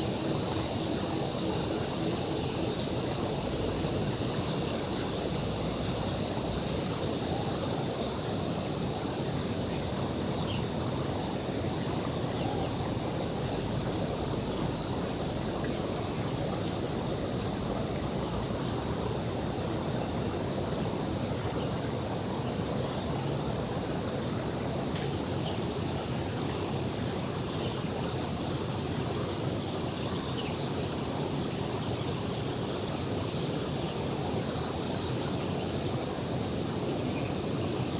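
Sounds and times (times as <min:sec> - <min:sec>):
steady rushing ambient noise: 0:00.0 - 0:37.9.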